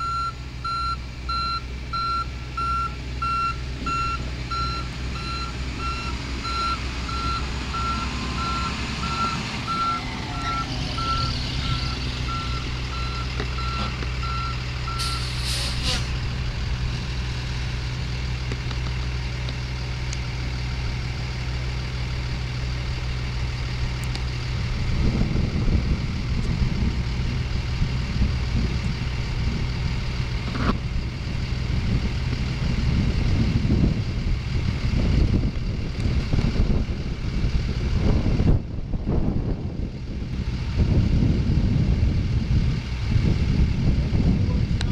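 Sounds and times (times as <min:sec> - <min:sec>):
truck engine idling: 0:00.0 - 0:44.9
uneven low rumbling: 0:00.0 - 0:44.9.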